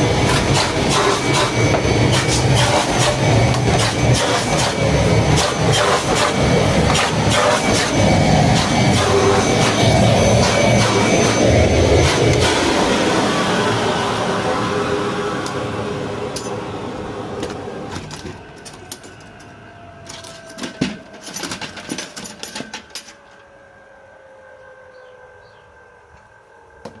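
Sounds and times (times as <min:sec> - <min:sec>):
low hum sinking in pitch: 0:00.0 - 0:27.0
machine whirring: 0:00.0 - 0:27.0.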